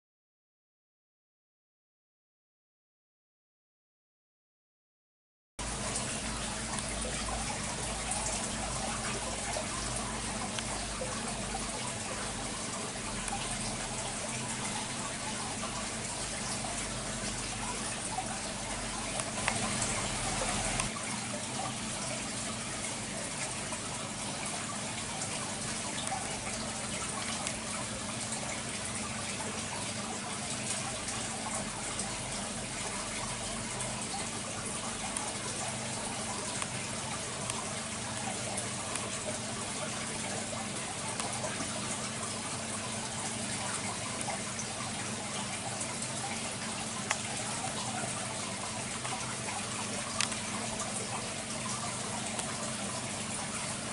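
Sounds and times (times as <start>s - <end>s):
water running and splashing: 5.6s - 53.9s.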